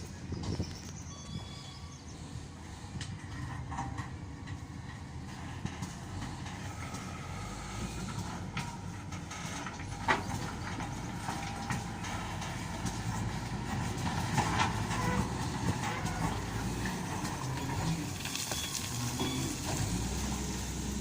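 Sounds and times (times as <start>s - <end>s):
wheel loader diesel rumble: 0.0s - 21.0s.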